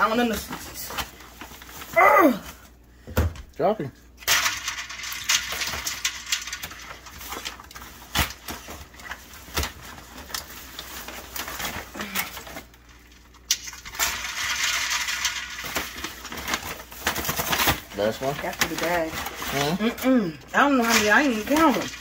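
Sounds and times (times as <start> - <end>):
paper and plastic bag rustling: 0.0 - 2.7, 4.4 - 22.0.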